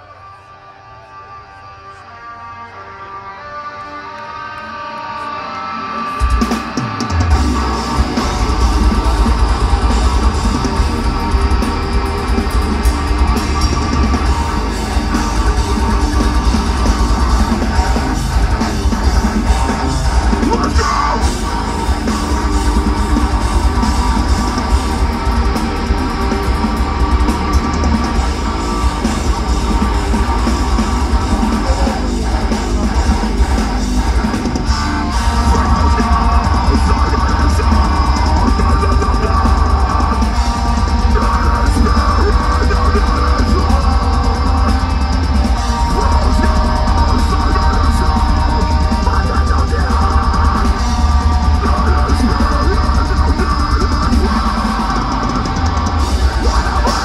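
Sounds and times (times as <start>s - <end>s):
distorted electric guitars: 0.0s - 57.0s
bass guitar: 3.1s - 57.0s
pounding drum kit: 6.2s - 57.0s.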